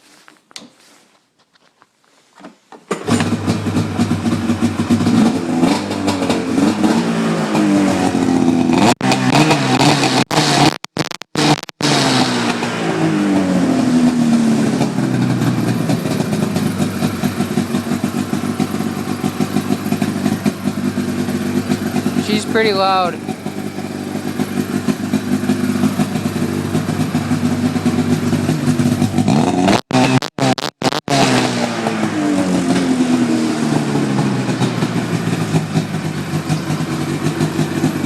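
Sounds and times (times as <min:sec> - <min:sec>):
snowmobile engine revving: 0:03.0 - 0:38.0.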